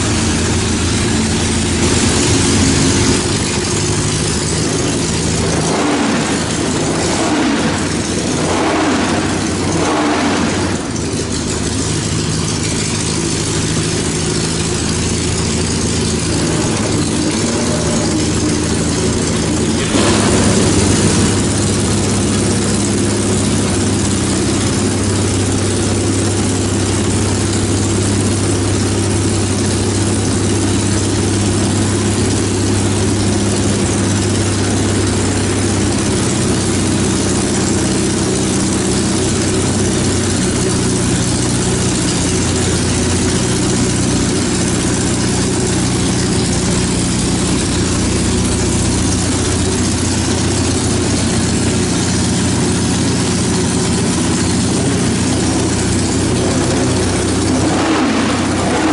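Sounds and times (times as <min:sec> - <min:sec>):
race car engine idling: 0:00.0 - 0:58.9.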